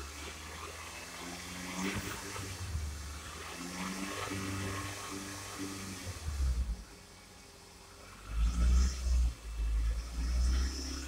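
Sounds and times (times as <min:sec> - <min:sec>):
car engine running above idle: 0:00.0 - 0:11.0.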